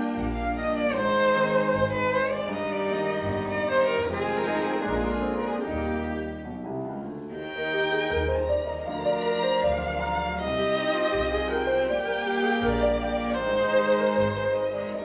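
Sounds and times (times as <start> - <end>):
bowed violin melody: 0.0 - 15.0
low cello notes: 0.0 - 15.0.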